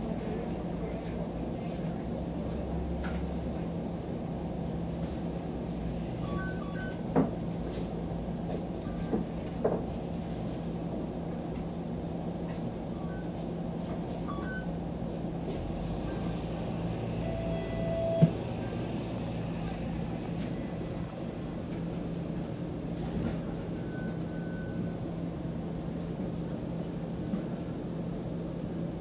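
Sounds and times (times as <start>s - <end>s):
streetcar low hum: 0.0s - 29.0s.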